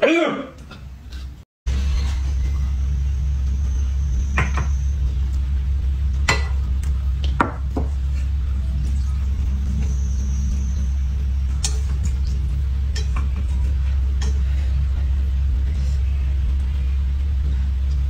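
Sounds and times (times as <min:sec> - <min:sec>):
steady low hum: 0:00.6 - 0:18.0.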